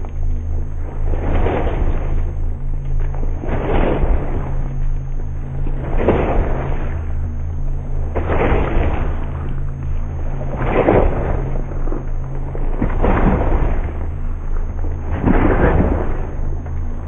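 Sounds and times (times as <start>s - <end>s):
heavy booms with rumble: 0.0s - 17.0s
steady low hum: 0.0s - 17.0s.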